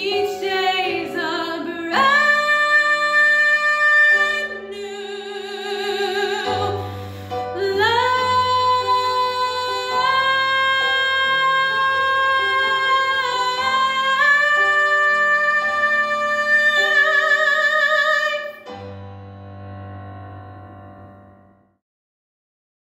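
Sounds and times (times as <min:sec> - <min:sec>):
woman singing with vibrato: 0:00.0 - 0:18.6.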